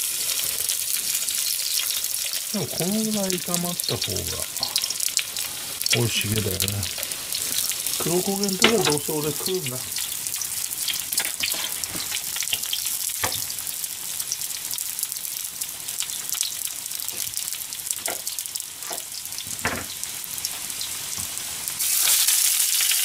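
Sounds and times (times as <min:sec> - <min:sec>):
hot oil sizzling: 0:00.0 - 0:23.0
sharp oil crackles: 0:00.0 - 0:23.0.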